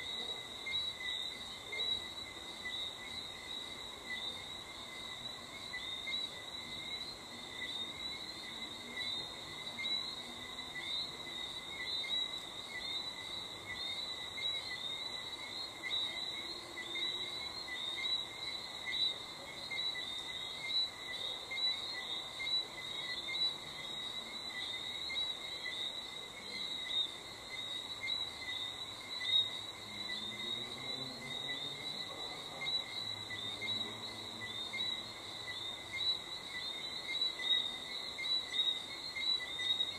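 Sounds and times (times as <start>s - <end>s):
crickets chirping: 0.0s - 39.9s
frogs calling faintly: 0.0s - 39.9s.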